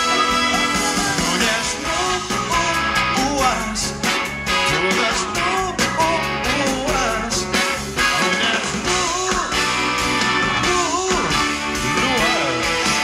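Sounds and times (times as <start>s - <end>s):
drum beat: 0.0s - 13.0s
electric guitar: 0.0s - 13.0s.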